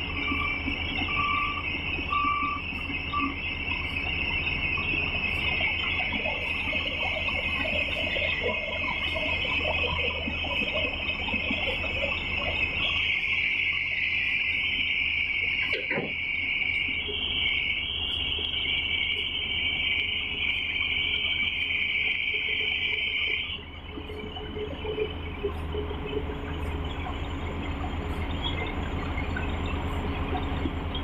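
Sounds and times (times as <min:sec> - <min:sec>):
excavator diesel engine hum: 0:00.0 - 0:31.0.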